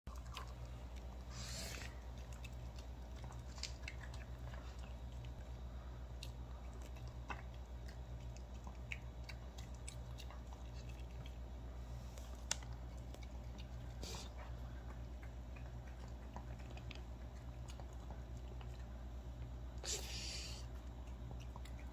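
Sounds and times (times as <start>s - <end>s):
dog chewing wetly: 0.1s - 21.9s
steady low hum: 0.1s - 21.9s.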